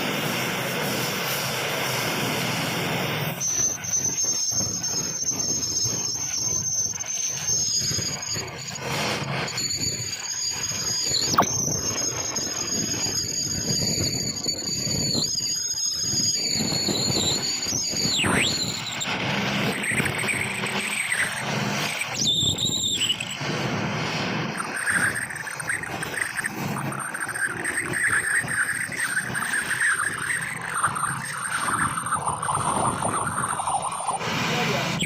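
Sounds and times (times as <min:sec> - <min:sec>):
power tool squealing on metal: 0:00.0 - 0:35.0
grinding noise: 0:01.7 - 0:35.0.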